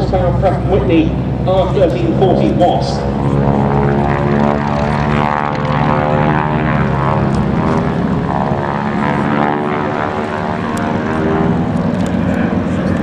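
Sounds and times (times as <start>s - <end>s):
propeller aircraft droning overhead: 0.0s - 13.0s.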